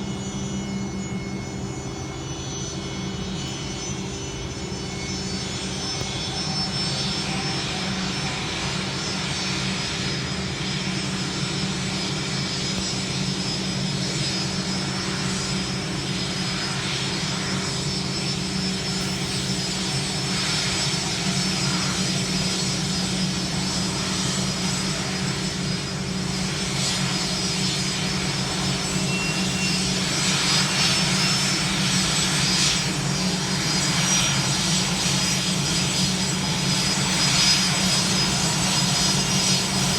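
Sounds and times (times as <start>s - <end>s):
aircraft engines running: 0.0s - 39.9s.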